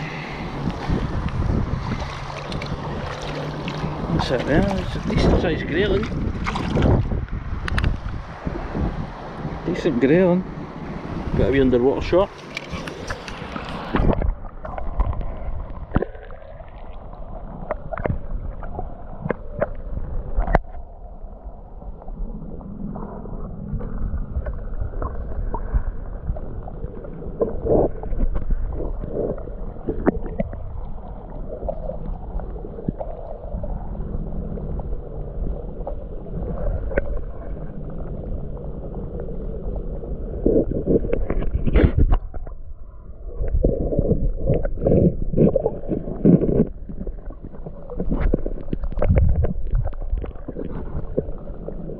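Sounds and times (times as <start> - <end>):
muffled underwater river rushing: 0.0 - 51.9.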